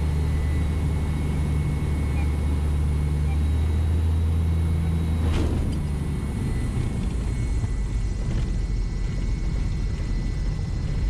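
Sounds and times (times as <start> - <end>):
airplane engine idling: 0.0 - 11.0.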